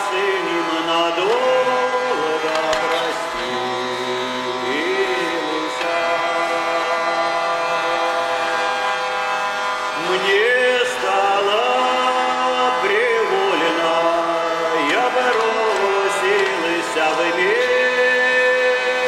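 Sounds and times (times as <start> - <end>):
man singing a chant-like melody: 0.0 - 8.7, 10.0 - 19.0
hurdy-gurdy drone: 0.0 - 19.0.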